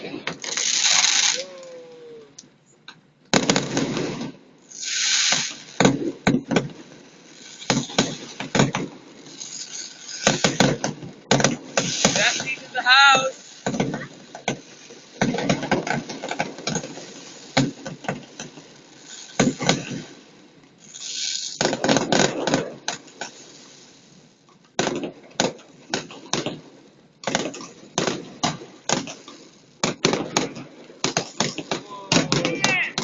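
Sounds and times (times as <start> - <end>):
fireworks bangs and cracks: 0.0 - 33.0
fireworks hissing crackle: 0.0 - 33.0.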